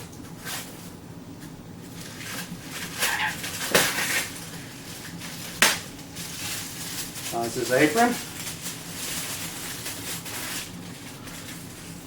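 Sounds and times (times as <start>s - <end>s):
packaging rustling and scraping: 1.9s - 12.0s.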